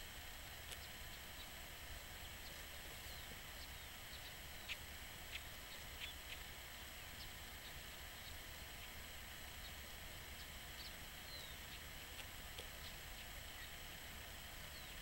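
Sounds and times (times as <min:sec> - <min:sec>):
low background hiss: 0:00.0 - 0:15.0
small birds chirping: 0:00.5 - 0:15.0.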